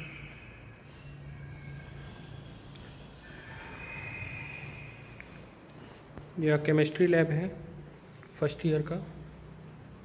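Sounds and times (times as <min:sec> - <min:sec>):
insects trilling high-pitched: 0:00.0 - 0:10.0
lower insect trill: 0:00.0 - 0:10.0.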